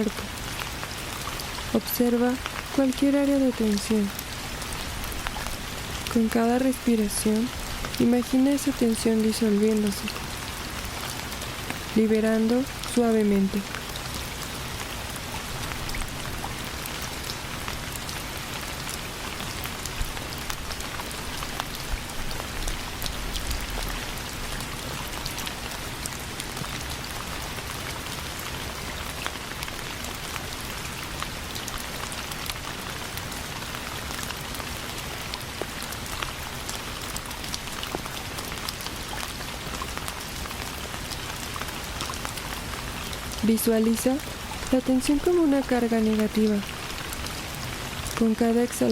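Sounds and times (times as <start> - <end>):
steady rain pattering: 0.0 - 48.9.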